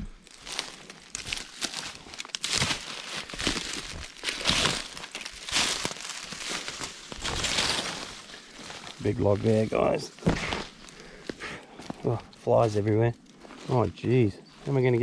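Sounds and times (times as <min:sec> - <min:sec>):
boots crunching through dry leaves: 0:00.0 - 0:15.0.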